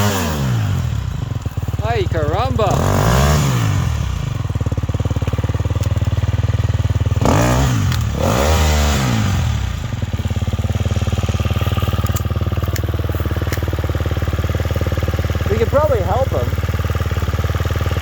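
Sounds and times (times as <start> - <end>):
dirt bike engine idling and revving: 0.0 - 18.0.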